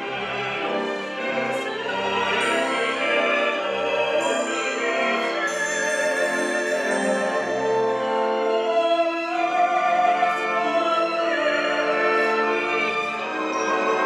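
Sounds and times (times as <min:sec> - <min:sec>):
orchestra accompaniment: 0:00.0 - 0:14.0.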